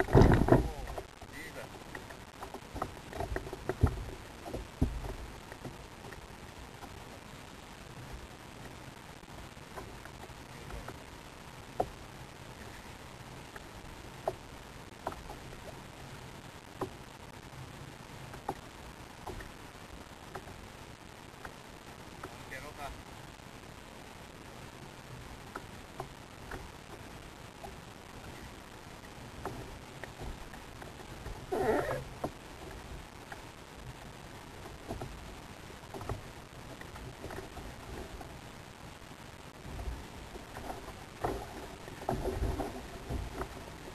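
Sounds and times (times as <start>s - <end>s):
wind and sea: 0.0s - 43.9s.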